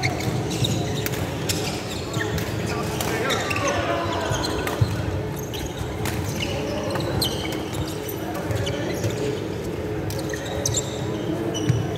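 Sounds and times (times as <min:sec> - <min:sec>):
shoes squeaking on wooden floor: 0:00.0 - 0:11.9.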